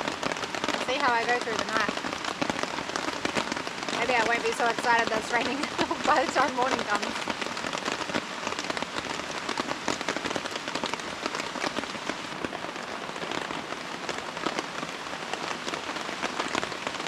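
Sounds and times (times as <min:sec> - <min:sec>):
raindrop hits: 0:00.0 - 0:17.0
steady rain falling: 0:00.0 - 0:17.0.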